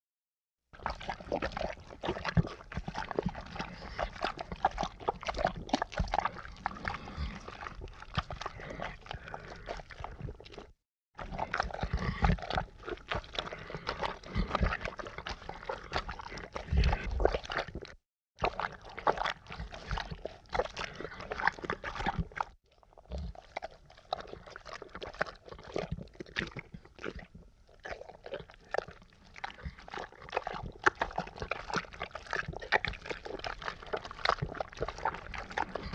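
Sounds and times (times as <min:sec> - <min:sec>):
thick ooze bubbling: 0:00.8 - 0:35.9.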